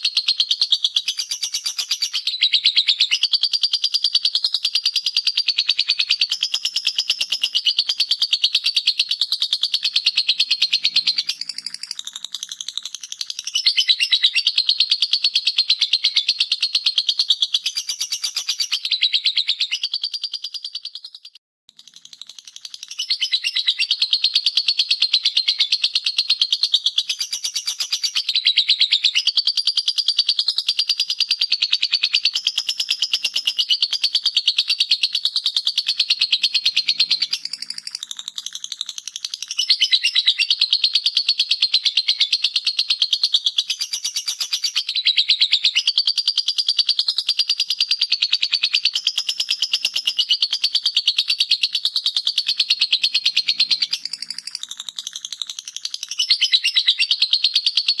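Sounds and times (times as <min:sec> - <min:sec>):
lovebird chattering trill: 0:00.0 - 0:47.3, 0:48.0 - 0:58.0.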